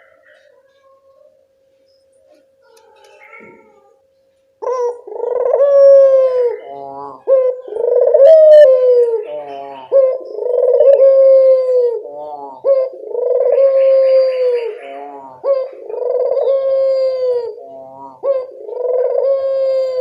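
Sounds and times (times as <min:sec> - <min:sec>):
dove cooing: 0:02.3 - 0:04.0, 0:04.6 - 0:20.0.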